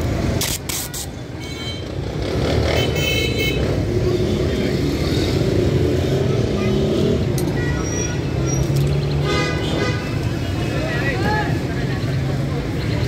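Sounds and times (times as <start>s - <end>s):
passing vehicle engines: 0.0s - 13.0s.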